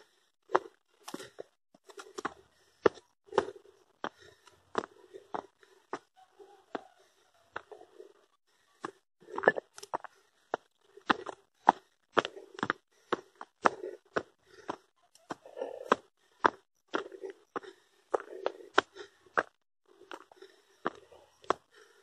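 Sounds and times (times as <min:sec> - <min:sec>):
footsteps on stony dirt trail: 0:00.5 - 0:08.0, 0:08.8 - 0:22.0.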